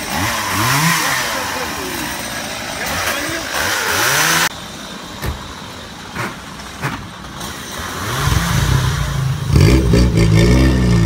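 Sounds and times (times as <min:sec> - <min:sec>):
engine revving: 0:00.0 - 0:04.6, 0:06.2 - 0:11.0.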